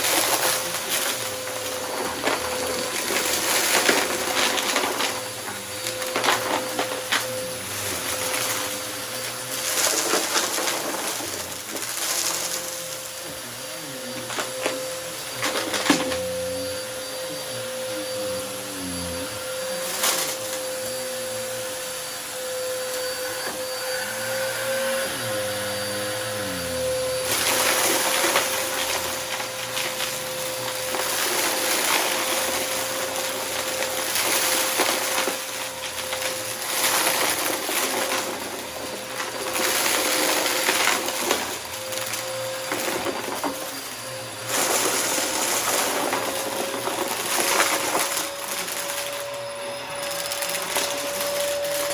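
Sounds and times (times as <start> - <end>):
debris crackling in vacuum: 0.0 - 17.3, 25.8 - 51.9
vacuum cleaner whining: 0.0 - 51.9.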